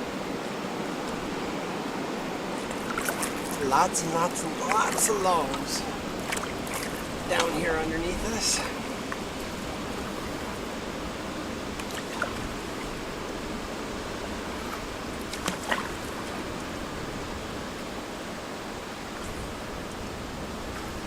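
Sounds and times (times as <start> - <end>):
river current rushing: 0.0 - 21.0.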